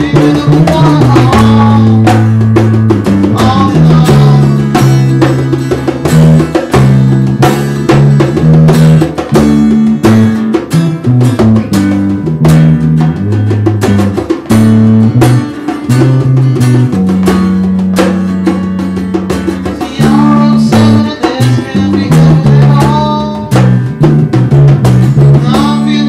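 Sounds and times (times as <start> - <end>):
electric bass: 0.0 - 26.0
hand drum: 0.0 - 26.0
strummed acoustic guitar: 0.0 - 26.0.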